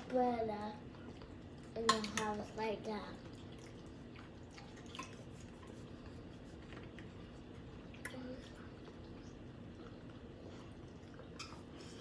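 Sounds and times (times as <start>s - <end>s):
chewing and wet smacking: 0.0s - 12.0s.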